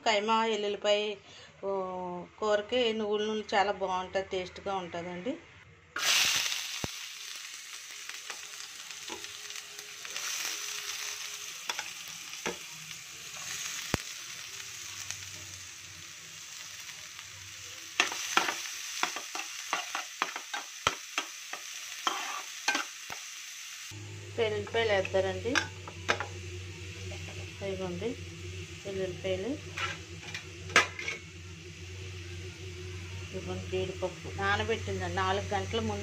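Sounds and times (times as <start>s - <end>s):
onions sizzling in pan: 6.0s - 36.0s.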